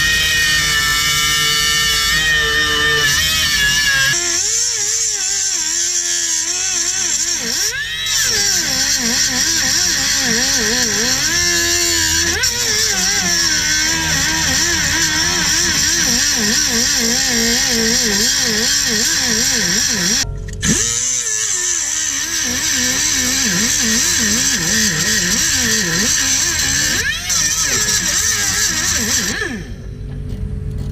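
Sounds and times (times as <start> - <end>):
angle grinder cutting metal: 0.0 - 29.9.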